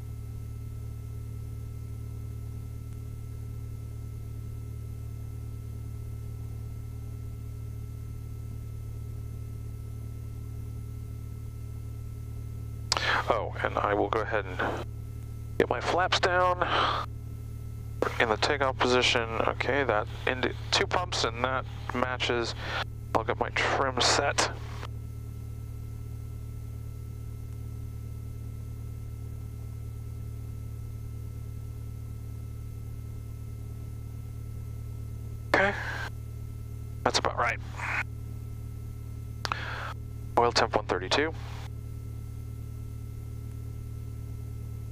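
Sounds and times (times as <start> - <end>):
aircraft engine low drone: 0.0 - 44.9
faint steady whine: 0.0 - 44.9.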